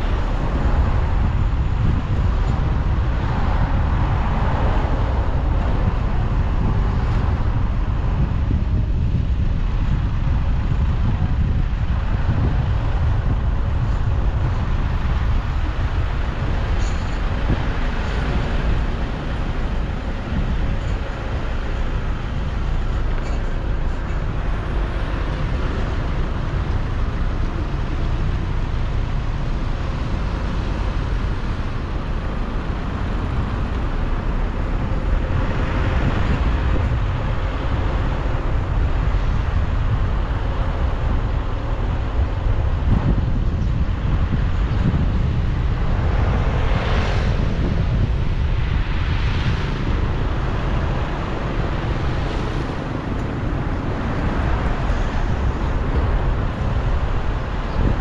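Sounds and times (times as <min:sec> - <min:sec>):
street traffic rumble: 0:00.0 - 0:58.0
wind buffeting microphone: 0:00.0 - 0:58.0.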